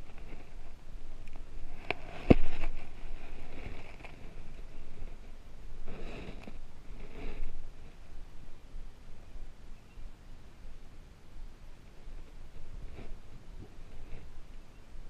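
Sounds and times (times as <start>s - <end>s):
wind on microphone: 0.0s - 9.7s, 10.6s - 15.0s.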